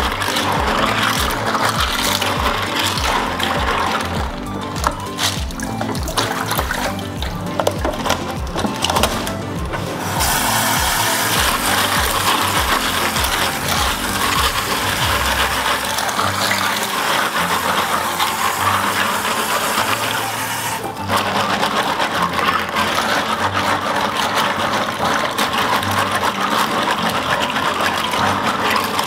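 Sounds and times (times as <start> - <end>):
clam shells rattling in colander: 0.0 - 9.3, 10.1 - 29.0
tap water running into sink: 0.0 - 29.0.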